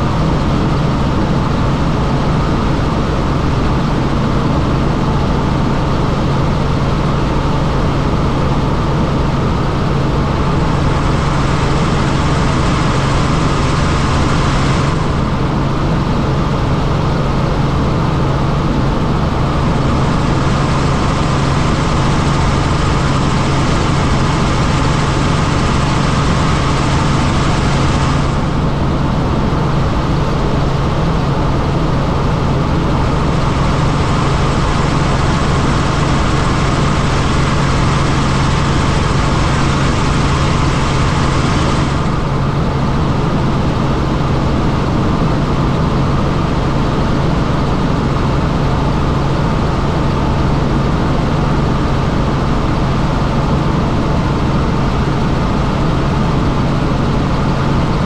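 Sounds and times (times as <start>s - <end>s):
helicopter rotor and turbine drone: 0.0s - 58.0s.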